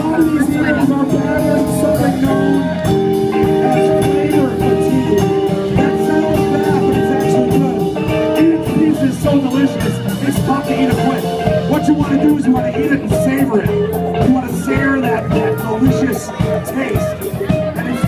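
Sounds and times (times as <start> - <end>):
drum kit beat: 0.0 - 18.0
guitar chords: 0.0 - 18.0
live band playing: 0.0 - 18.0.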